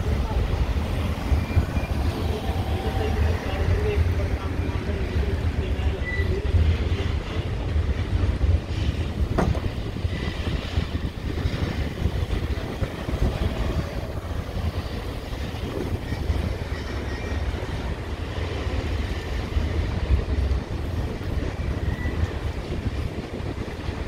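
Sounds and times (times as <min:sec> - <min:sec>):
freight train rolling on rails: 0:00.0 - 0:24.0.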